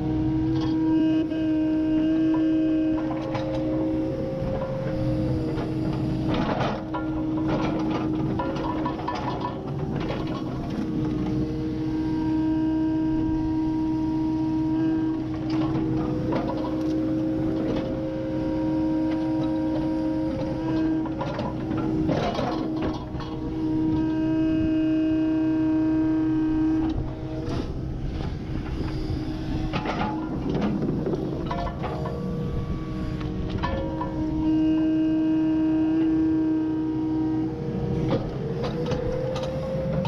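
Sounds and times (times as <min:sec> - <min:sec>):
excavator diesel engine: 0:00.0 - 0:40.0
hydraulic whine: 0:00.0 - 0:40.0.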